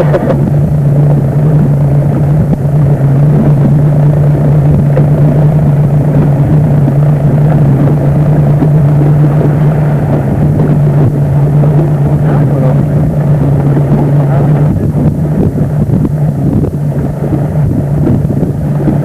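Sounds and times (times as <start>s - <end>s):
motorboat engine hum: 0.0s - 19.0s
water noise: 0.0s - 19.0s
wind rumbling: 0.0s - 19.0s.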